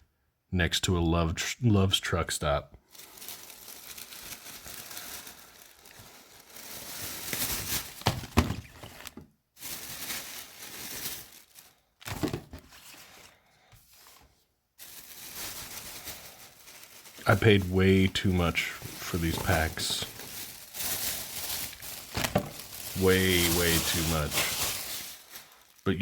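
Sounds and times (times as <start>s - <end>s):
foil wrappers crinkling and tearing: 2.8s - 14.2s, 14.8s - 26.0s.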